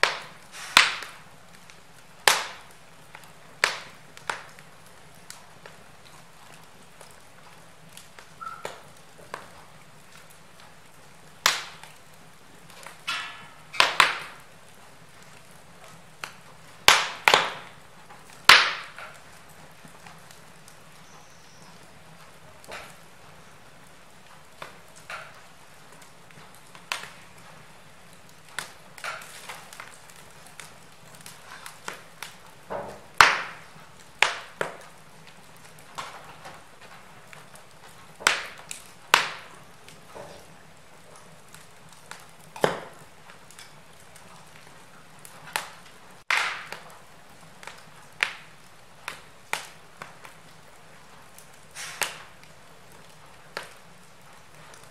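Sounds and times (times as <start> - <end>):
faint steady hiss: 0.0 - 54.9
log fire crackling: 0.0 - 54.9.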